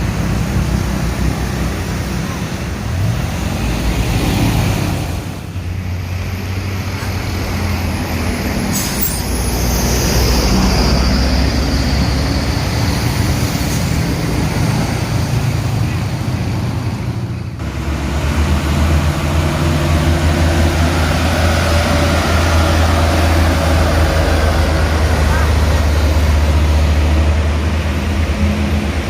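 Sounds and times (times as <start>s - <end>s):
heavy vehicle engine labouring: 0.0s - 29.0s
passing traffic: 0.0s - 29.0s.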